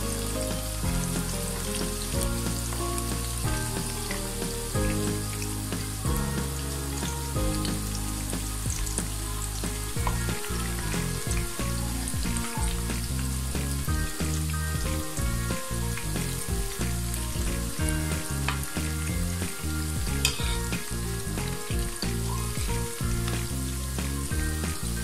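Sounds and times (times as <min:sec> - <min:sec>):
background music: 0:00.0 - 0:25.0
deep-frying sizzle in oil: 0:00.0 - 0:25.0.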